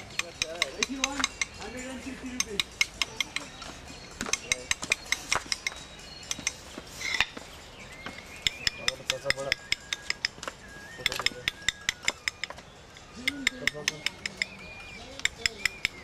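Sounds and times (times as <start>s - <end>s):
hammer tapping steel chisel on stone: 0.0s - 7.4s, 8.0s - 16.0s.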